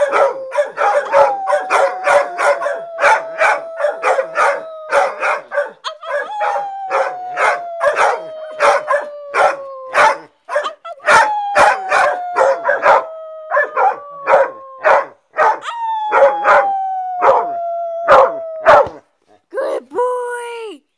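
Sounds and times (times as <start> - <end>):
dogs barking: 0.0 - 16.6, 18.1 - 19.0
dogs howling: 0.0 - 19.0.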